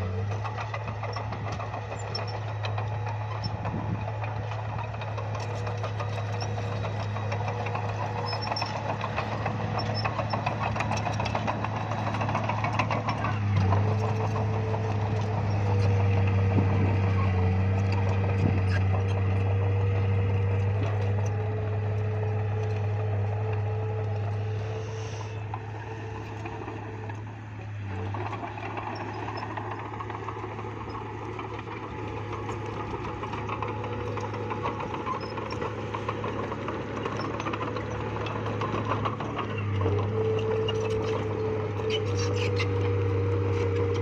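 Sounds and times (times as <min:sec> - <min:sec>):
bulldozer diesel engine: 0:00.0 - 0:44.0.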